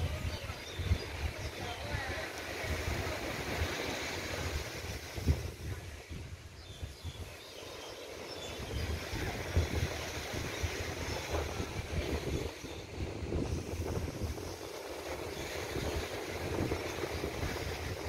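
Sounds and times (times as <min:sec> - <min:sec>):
wind buffeting microphone: 0:00.0 - 0:07.5, 0:08.3 - 0:18.0
small sea waves on shore: 0:00.0 - 0:18.0.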